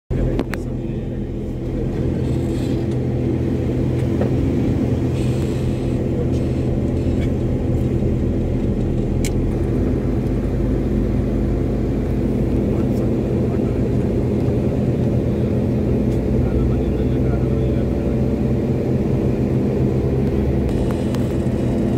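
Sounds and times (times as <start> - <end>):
car engine and road noise: 0.1 - 21.9.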